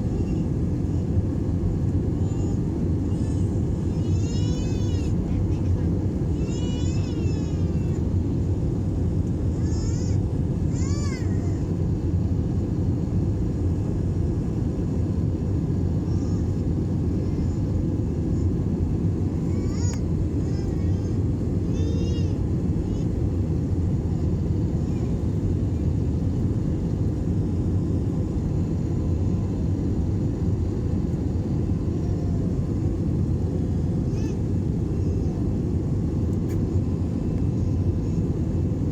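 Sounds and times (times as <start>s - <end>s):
airplane engine rumble: 0.0s - 38.9s.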